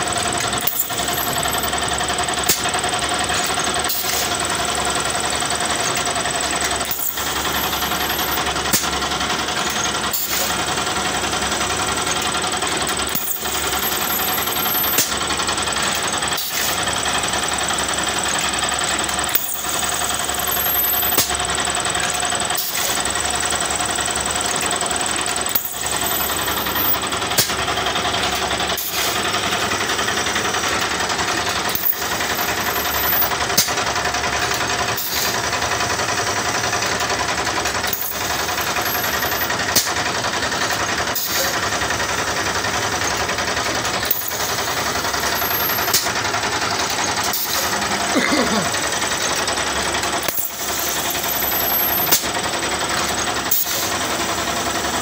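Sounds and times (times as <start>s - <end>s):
machine clacking: 0.0s - 55.0s
moulding machine rattle and hum: 0.0s - 55.0s.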